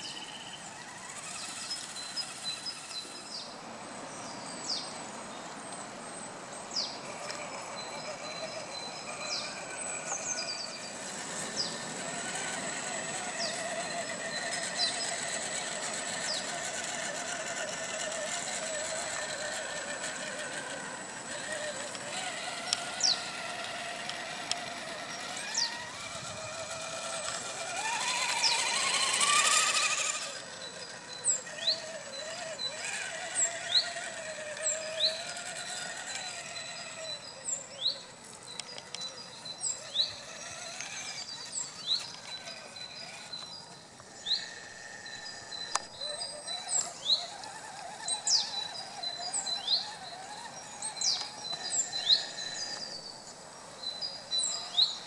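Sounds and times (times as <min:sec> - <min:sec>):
birds chirping: 0:00.0 - 0:55.0
electric motor and gears whining: 0:00.0 - 0:55.0.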